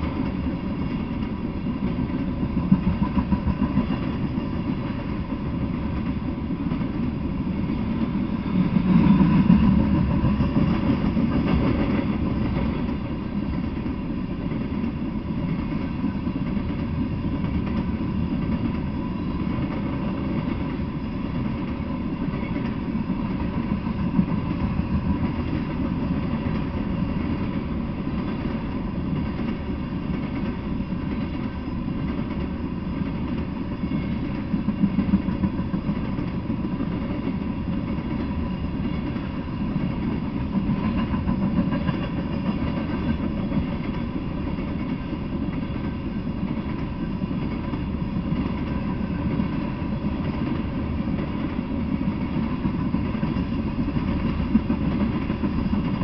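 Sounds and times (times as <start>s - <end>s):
train cars clanking: 0.0s - 56.0s
train wheels rumbling on rails: 0.0s - 56.0s.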